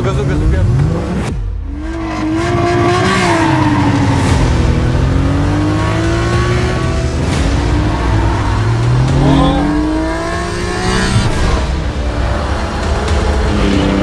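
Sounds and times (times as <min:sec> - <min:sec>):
car engine revving hard: 0:00.3 - 0:14.0.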